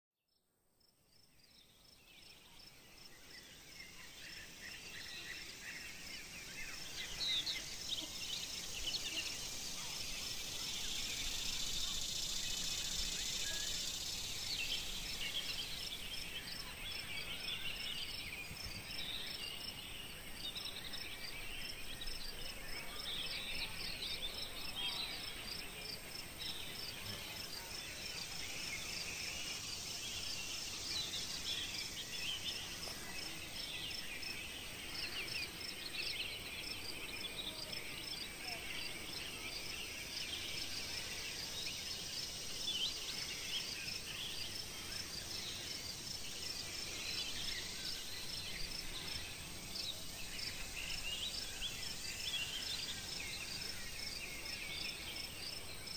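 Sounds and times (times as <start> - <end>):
rapid high insect chirp: 0.8 - 55.9.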